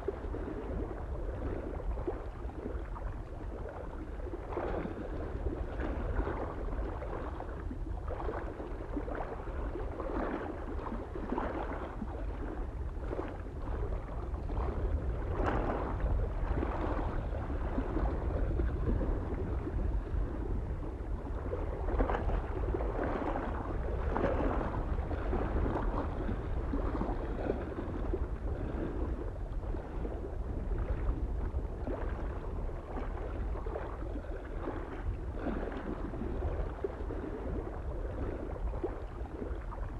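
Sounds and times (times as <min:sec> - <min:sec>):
low rumble of wind: 0:00.0 - 0:39.9
small waves lapping at shore: 0:00.0 - 0:39.9.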